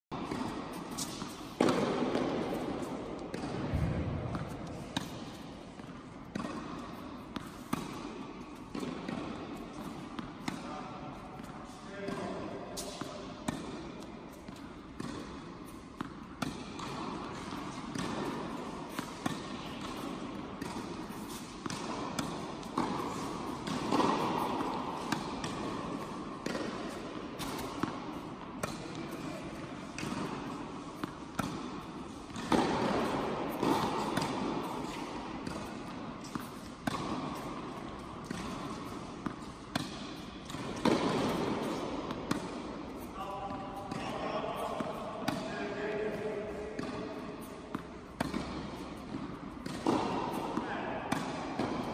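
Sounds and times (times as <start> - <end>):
rackets hitting tennis balls: 0.1 - 51.9
tennis balls bouncing: 0.1 - 51.9.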